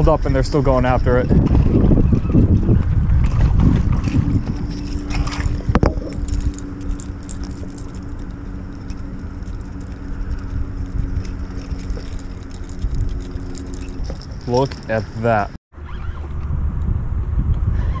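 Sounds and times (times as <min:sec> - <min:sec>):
low mechanical hum: 0:00.0 - 0:18.0
wind buffeting microphone: 0:00.0 - 0:18.0.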